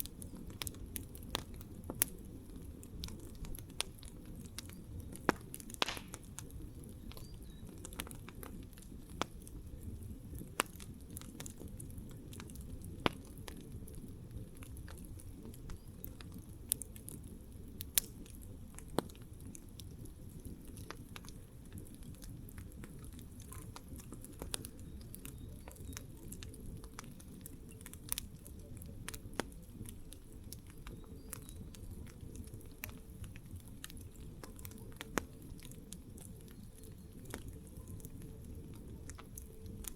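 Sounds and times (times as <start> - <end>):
burning wood crackling: 0.0 - 39.9
campfire flames rumbling: 0.0 - 39.9.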